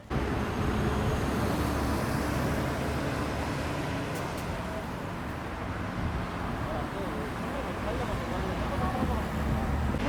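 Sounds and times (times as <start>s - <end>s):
car road noise: 0.0s - 10.0s.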